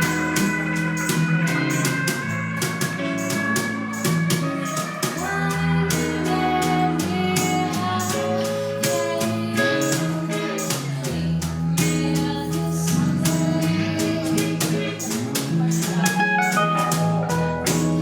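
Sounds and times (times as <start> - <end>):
bass line: 0.0 - 18.0
drum kit and cymbals: 0.0 - 18.0
electric guitar: 0.0 - 18.0.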